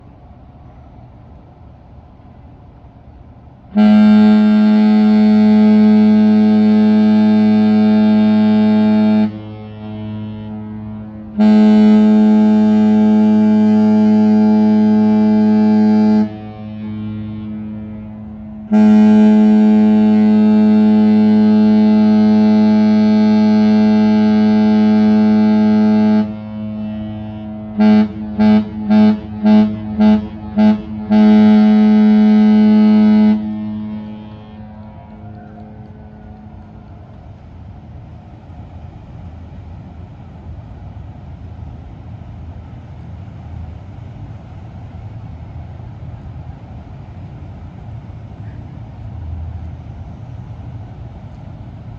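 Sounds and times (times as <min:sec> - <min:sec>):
ship's horn blasts: 0:00.0 - 0:51.9.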